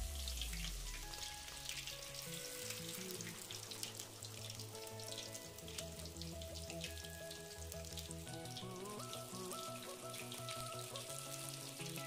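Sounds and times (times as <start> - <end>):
background music: 0.0 - 12.0
fish sizzling in hot oil: 0.0 - 12.0.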